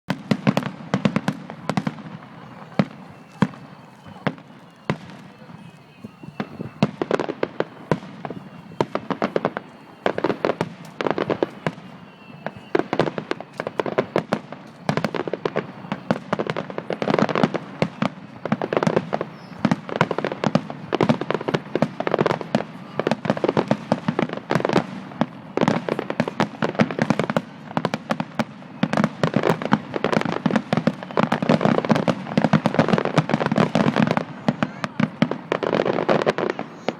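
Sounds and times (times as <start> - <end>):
fireworks bursting: 0.1 - 36.9.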